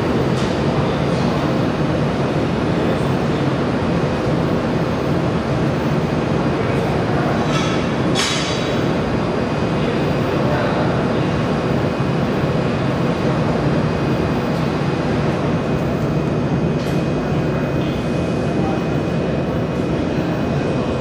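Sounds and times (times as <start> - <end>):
cooling system whirring: 0.0 - 21.0.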